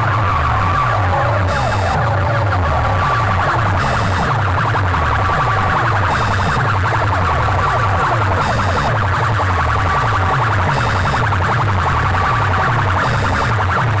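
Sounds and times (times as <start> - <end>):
bass-driven electronic track: 0.0 - 14.0
siren-like wailing sample: 0.0 - 14.0.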